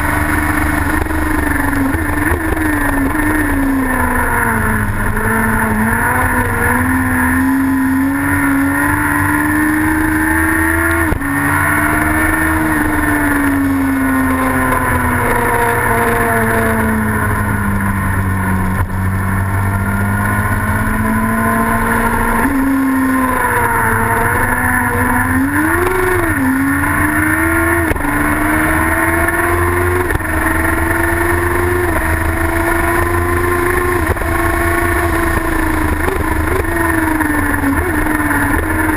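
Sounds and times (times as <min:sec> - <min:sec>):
engine at high revs: 0:00.0 - 0:38.9.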